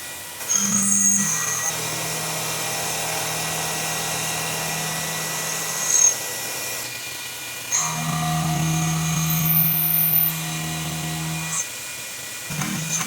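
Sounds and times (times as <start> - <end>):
milling machine spindle whining: 0.4 - 11.8, 12.5 - 13.0.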